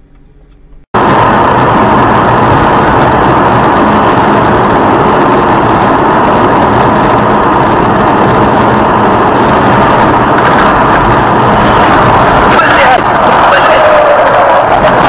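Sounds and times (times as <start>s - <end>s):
vehicle engine and road drone: 0.0s - 15.0s.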